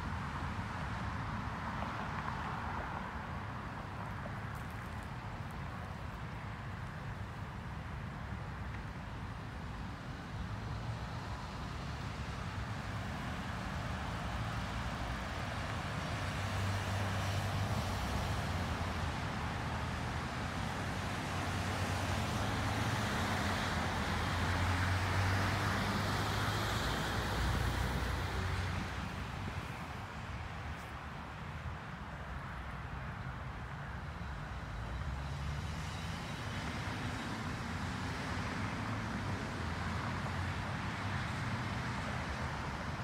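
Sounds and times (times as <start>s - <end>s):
road traffic rushing: 5.1s - 43.0s.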